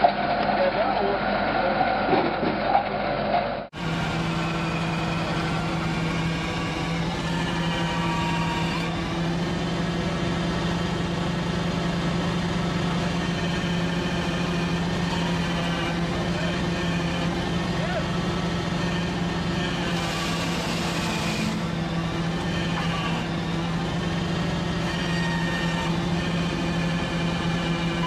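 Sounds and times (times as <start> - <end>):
harvester engine drone: 0.0 - 28.0
harvester machine sound: 0.0 - 28.0.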